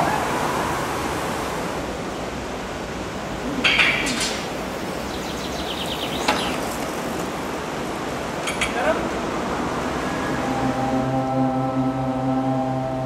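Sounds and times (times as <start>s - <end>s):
city background noise: 0.0s - 13.0s.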